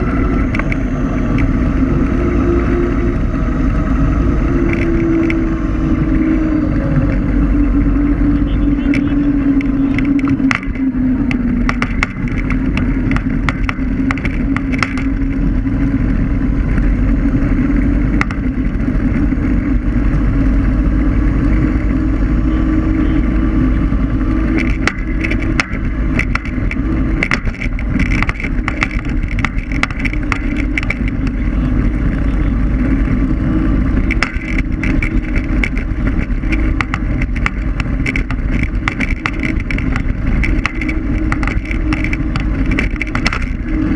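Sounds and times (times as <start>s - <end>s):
low hum: 0.0s - 43.9s
scooter rattling over bumps: 0.0s - 43.9s
tyres rumbling on asphalt: 0.0s - 43.9s
wind: 0.0s - 43.9s.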